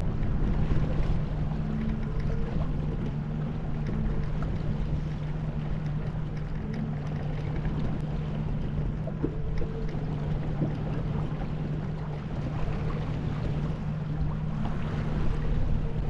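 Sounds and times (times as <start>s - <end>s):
boat motor droning: 0.0s - 16.0s
water noise: 0.0s - 16.0s
wind: 0.0s - 16.0s.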